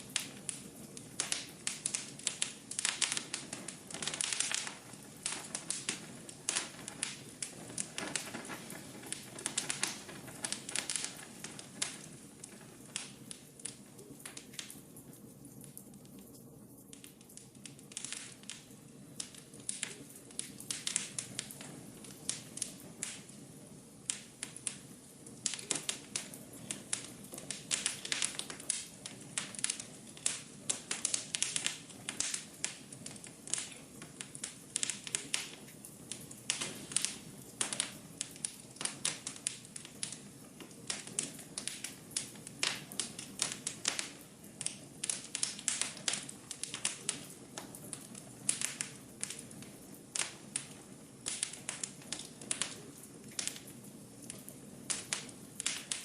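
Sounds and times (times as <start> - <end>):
hiss of burning: 0.0 - 56.0
wood fire crackling and popping: 0.0 - 56.0.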